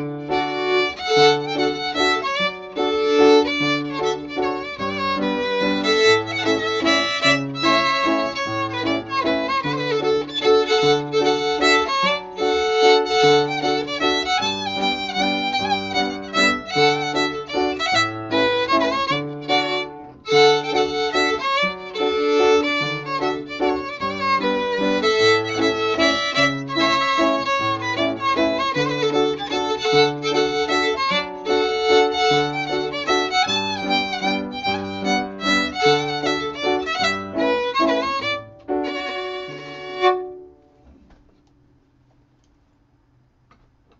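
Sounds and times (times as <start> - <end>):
fiddle melody: 0.0 - 40.8
piano accompaniment: 0.0 - 41.1.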